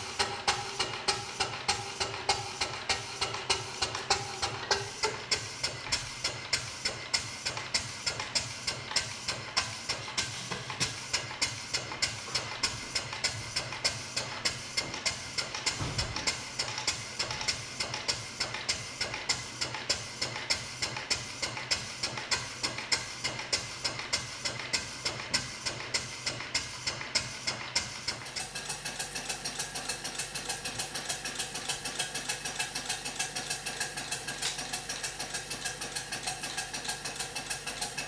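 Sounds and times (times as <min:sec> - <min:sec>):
steam engine exhaust chuffing: 0:00.0 - 0:38.0.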